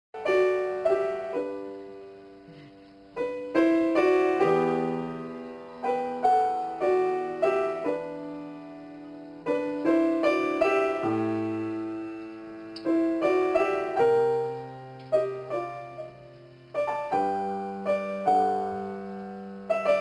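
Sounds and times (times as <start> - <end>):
slow piano phrases: 0.2 - 20.0.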